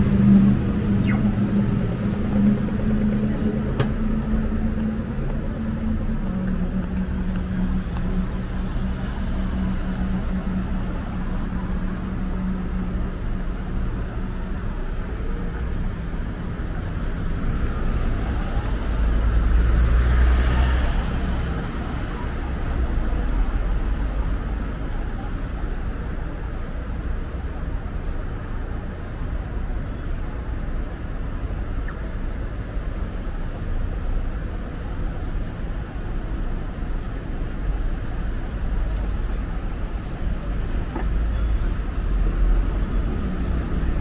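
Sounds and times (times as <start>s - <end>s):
street traffic engines and tyres: 0.0s - 44.0s.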